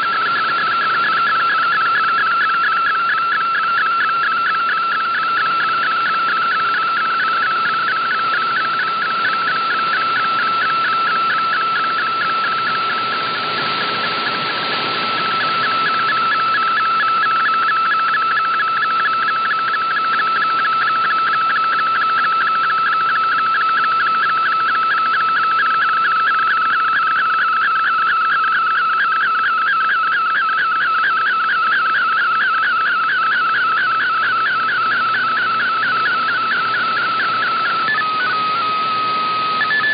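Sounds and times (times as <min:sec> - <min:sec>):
warbling radio data tone: 0:00.0 - 0:39.9.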